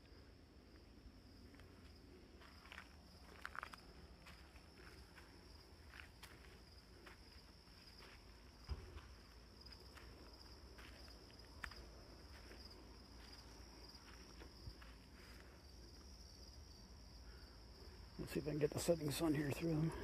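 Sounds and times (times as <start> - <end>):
crickets chirping: 0.0 - 20.0
soft footsteps on ground: 0.1 - 16.5.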